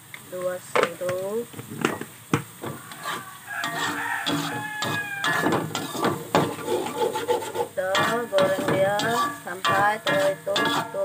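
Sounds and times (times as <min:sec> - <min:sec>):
metal fork scraping wok: 0:01.9 - 0:11.0.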